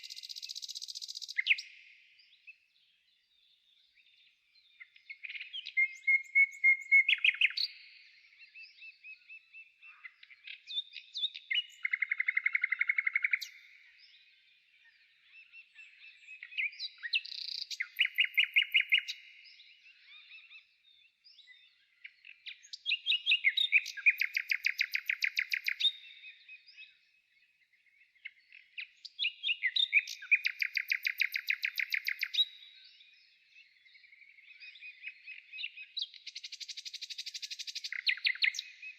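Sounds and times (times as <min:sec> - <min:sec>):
songbird trills and chirps: 0:00.0 - 0:38.9.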